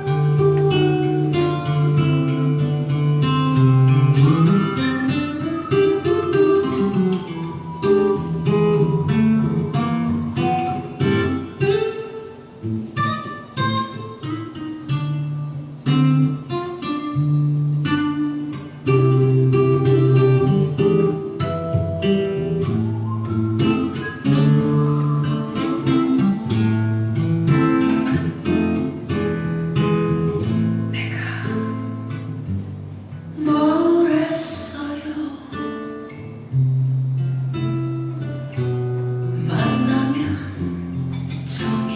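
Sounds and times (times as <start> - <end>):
acoustic guitar music: 0.0 - 41.9.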